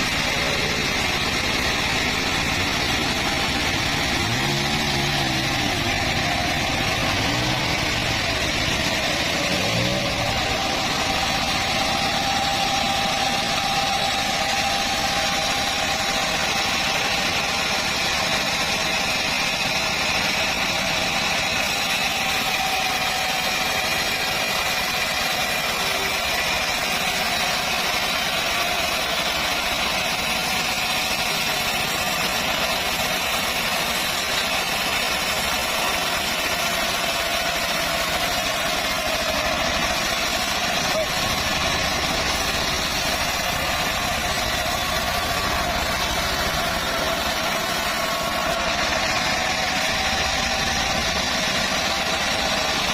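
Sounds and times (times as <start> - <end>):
band saw engine drone: 0.0 - 52.9
saw high whine: 0.0 - 52.9.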